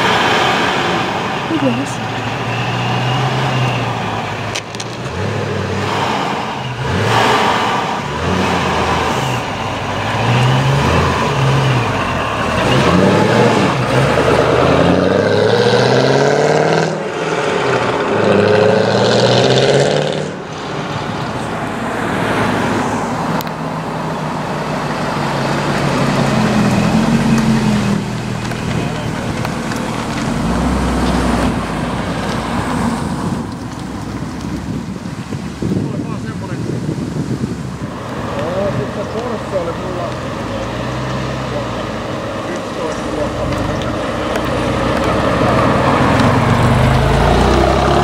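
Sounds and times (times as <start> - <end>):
sports car engine revving: 0.0 - 33.9, 36.9 - 48.0.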